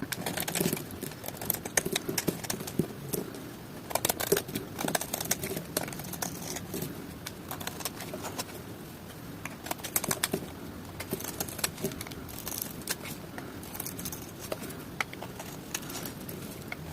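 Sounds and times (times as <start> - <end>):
dry soap crackling when cut: 0.0 - 8.5, 9.4 - 16.9.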